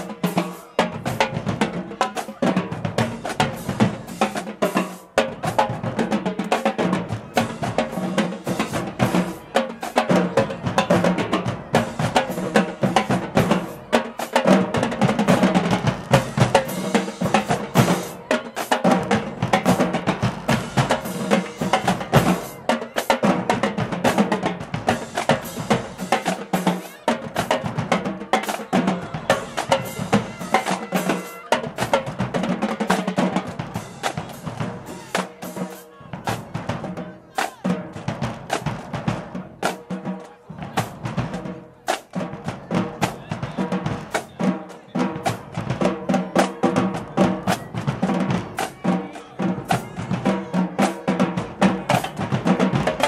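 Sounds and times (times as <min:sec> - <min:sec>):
bass drums and snare drums: 0:00.0 - 0:53.0.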